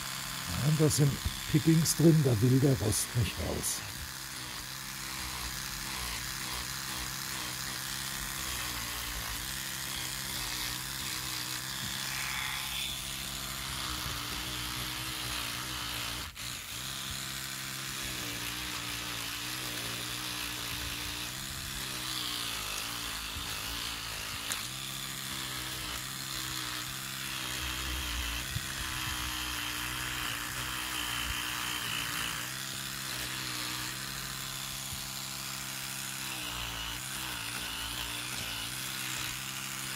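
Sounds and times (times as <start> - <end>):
electric toothbrush scrubbing metal: 0.0 - 39.9.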